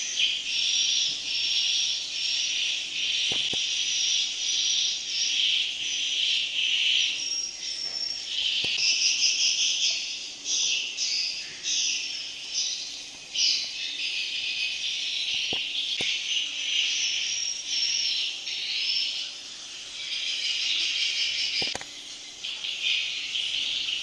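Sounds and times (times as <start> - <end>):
high-pitched swiftlet twittering: 0.0 - 24.0.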